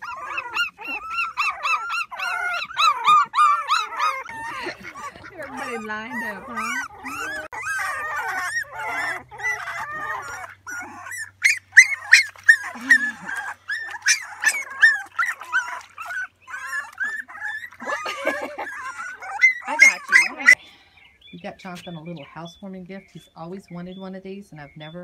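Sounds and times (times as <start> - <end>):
puppies whimpering and yelping: 0.0 - 20.6.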